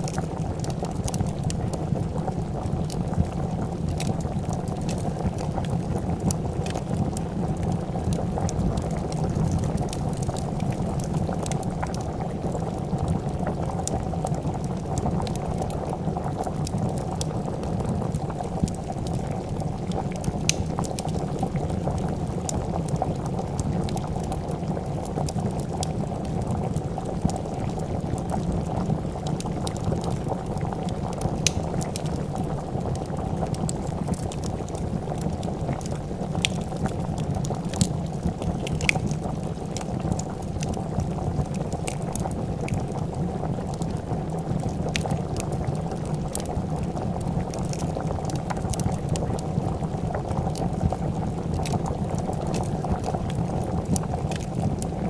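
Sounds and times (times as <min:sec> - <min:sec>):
soup bubbling at a boil: 0:00.0 - 0:55.0
wood fire crackling and popping: 0:00.0 - 0:55.0.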